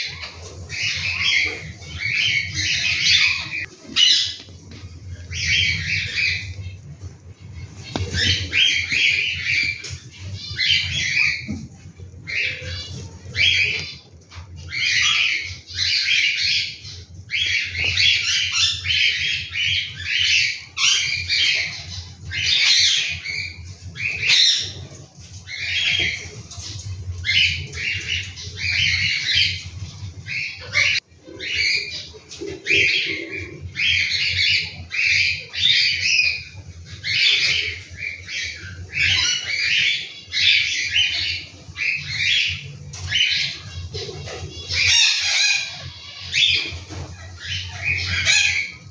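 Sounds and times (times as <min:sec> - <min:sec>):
cockatiel chicks squawking: 0:00.0 - 0:48.9.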